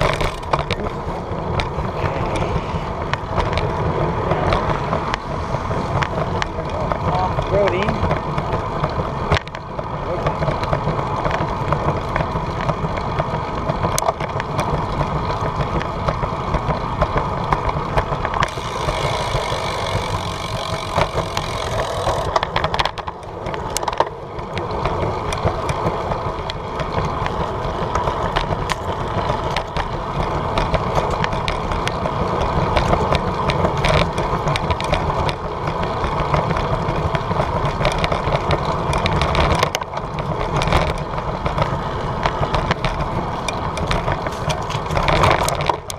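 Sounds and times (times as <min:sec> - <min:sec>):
small rattling clicks: 0:00.0 - 0:05.3, 0:05.9 - 0:45.9
wind and road noise: 0:00.0 - 0:45.9.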